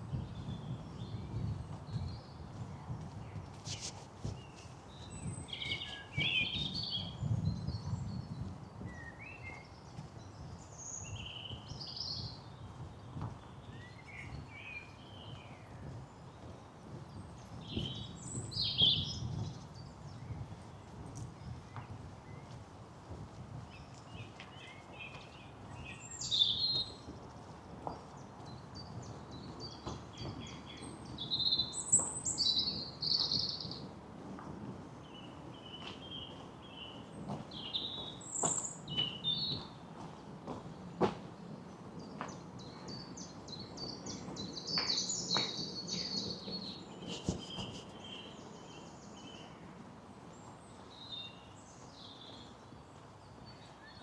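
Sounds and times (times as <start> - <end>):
songbirds singing and calling: 0.0 - 22.6, 23.7 - 27.2, 27.8 - 54.0.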